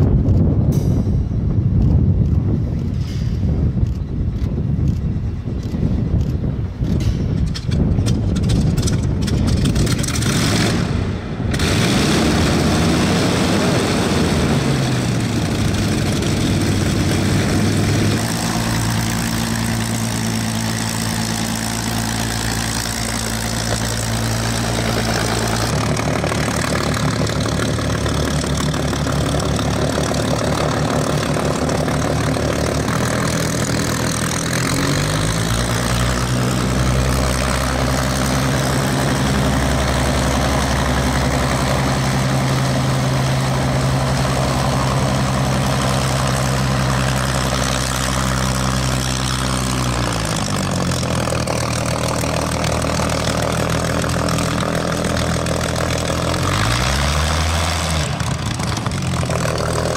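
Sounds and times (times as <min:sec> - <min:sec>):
aircraft engine idling: 0:03.7 - 0:59.9.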